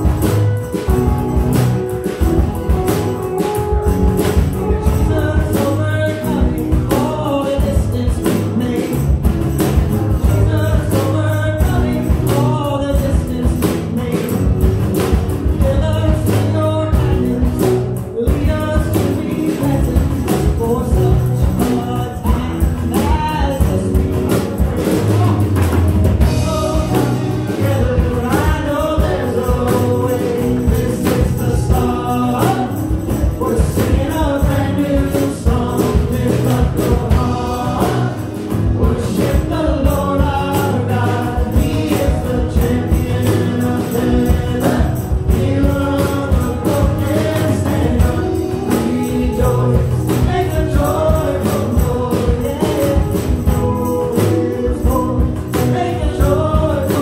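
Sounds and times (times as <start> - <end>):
acoustic guitar: 0.0 - 57.0
keyboard: 0.0 - 57.0
steady drum beat: 0.0 - 57.0
man and woman singing: 4.1 - 57.0.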